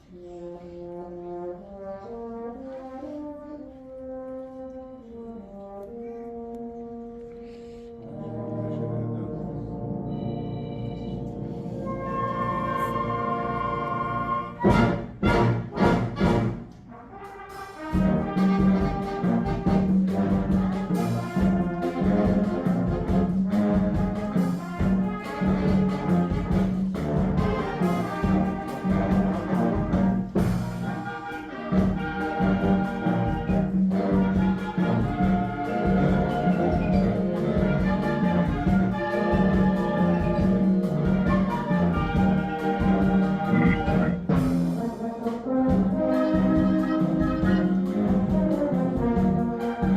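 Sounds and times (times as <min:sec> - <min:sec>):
live band playing: 0:07.4 - 0:49.9.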